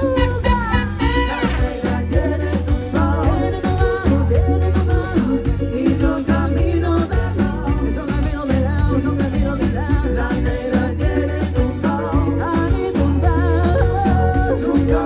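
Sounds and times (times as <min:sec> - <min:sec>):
live salsa band playing: 0:00.0 - 0:15.0.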